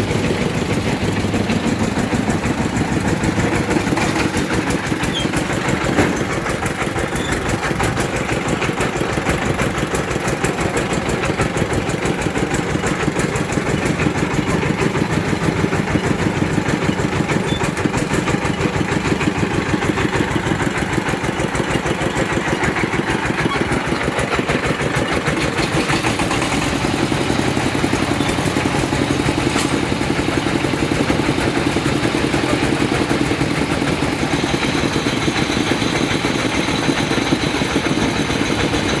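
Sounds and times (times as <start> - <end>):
drilling rig engine running: 0.0 - 39.0.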